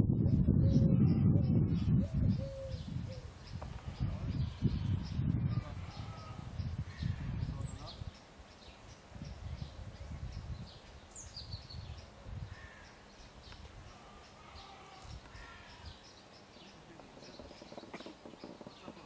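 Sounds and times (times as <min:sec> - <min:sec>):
birds chirping: 0:00.2 - 0:19.0.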